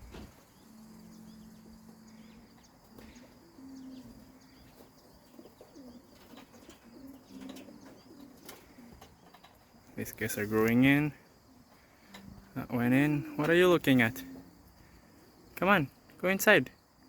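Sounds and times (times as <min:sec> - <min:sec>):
pigeons cooing: 0:00.0 - 0:15.6.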